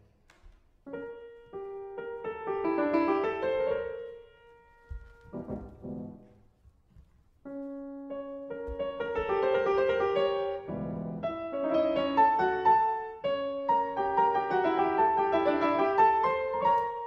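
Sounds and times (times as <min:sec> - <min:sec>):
grand piano classical piece: 0:00.0 - 0:17.0.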